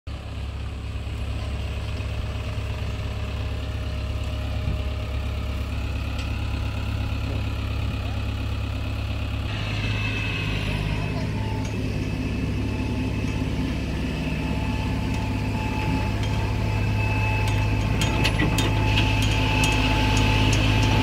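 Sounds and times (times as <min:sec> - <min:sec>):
diesel engine droning: 0:00.1 - 0:21.0.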